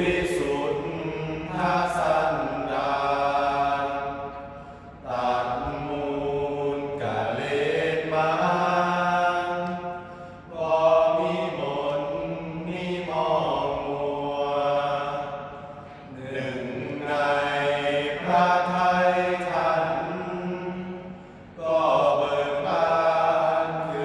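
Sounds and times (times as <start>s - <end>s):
men chanting together: 0.0s - 4.4s, 5.0s - 24.0s.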